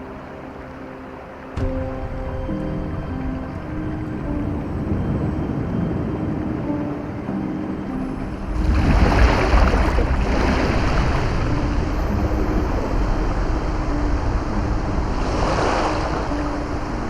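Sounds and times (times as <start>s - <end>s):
faint held musical notes: 0.0s - 17.0s
rushing surf-like noise: 0.0s - 17.0s.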